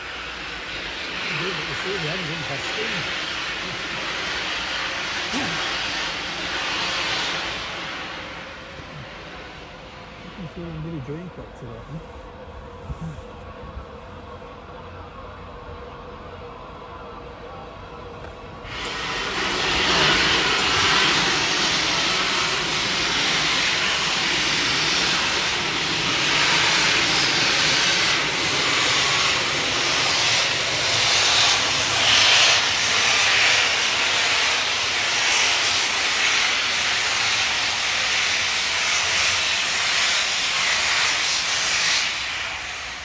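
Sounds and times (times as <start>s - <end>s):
steam locomotive venting steam: 0.0s - 43.0s.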